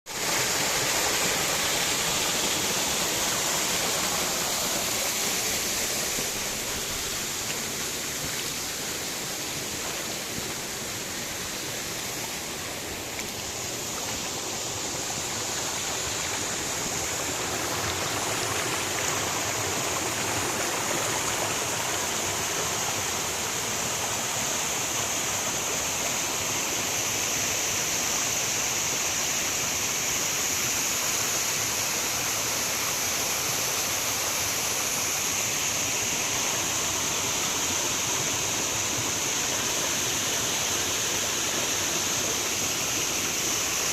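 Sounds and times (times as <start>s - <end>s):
stream water rushing: 0.1s - 43.9s.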